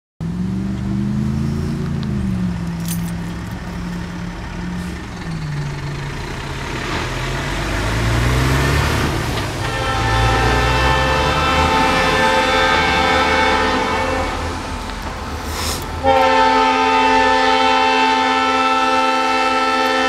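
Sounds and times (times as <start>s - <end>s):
truck diesel engine passing: 0.2s - 20.0s.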